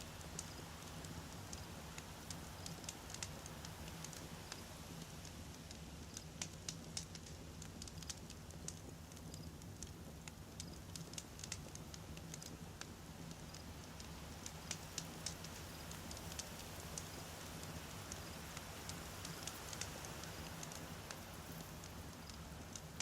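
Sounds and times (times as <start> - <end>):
campfire crackling: 0.1 - 23.0
fire popping and snapping: 0.2 - 23.0.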